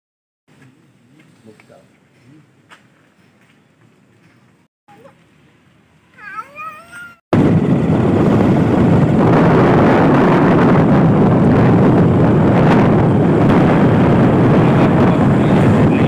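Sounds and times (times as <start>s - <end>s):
wind and road noise: 0.5s - 16.0s.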